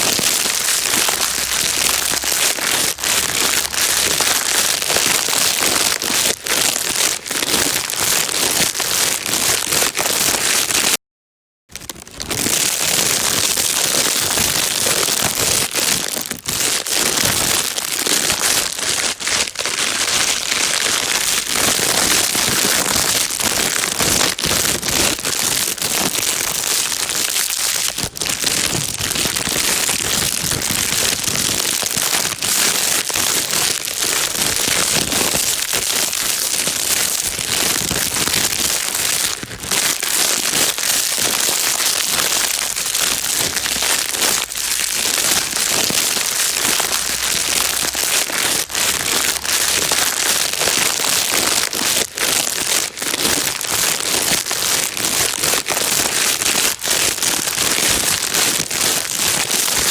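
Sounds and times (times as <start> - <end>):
plastic bag crinkling: 0.0 - 11.0, 11.7 - 59.9.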